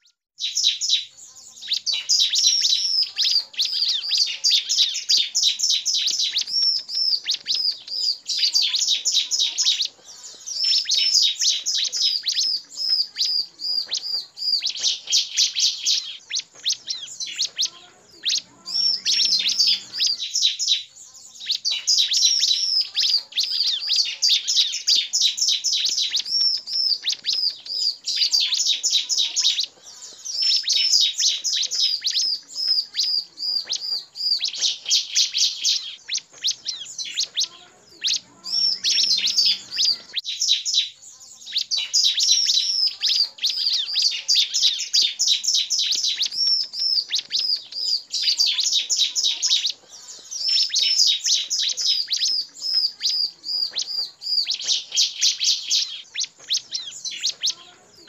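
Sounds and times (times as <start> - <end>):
bird high sharp chirps: 0.0 - 58.0.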